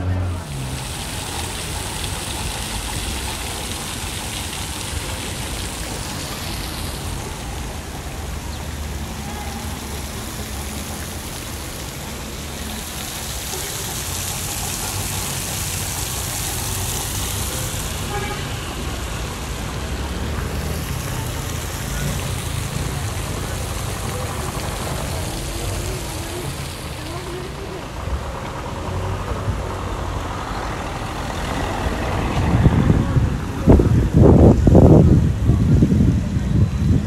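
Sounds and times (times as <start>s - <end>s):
cars passing on cobblestones: 0.0s - 37.0s
fountain jets splashing: 0.0s - 37.0s.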